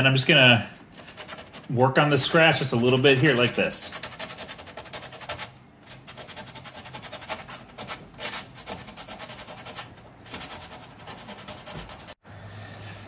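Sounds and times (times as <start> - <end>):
sanding block rasping strokes: 1.0 - 12.2.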